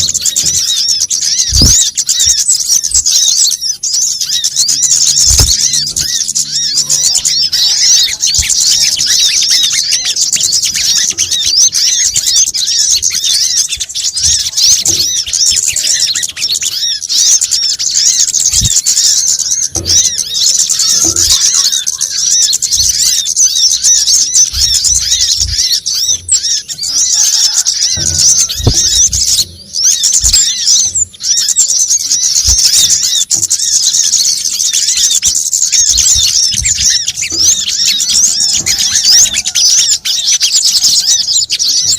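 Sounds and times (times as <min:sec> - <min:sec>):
sunbirds chattering: 0:00.0 - 0:41.9.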